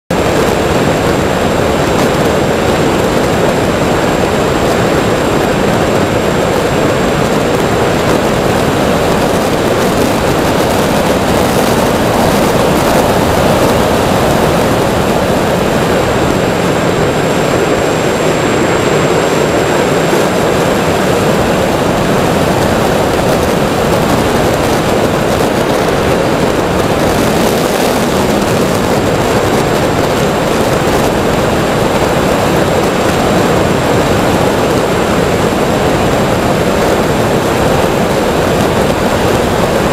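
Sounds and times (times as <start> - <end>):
air rushing past: 0.1 - 39.9
electric motor and propeller drone: 0.2 - 39.9.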